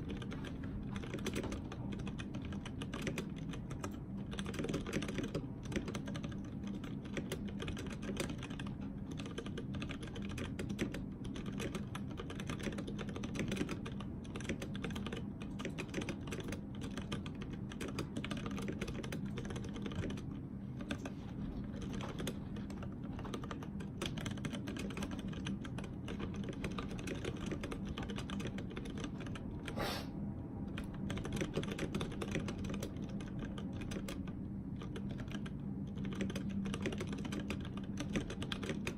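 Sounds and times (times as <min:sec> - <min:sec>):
fast mechanical keyboard typing: 0:00.0 - 0:29.7, 0:30.7 - 0:38.9.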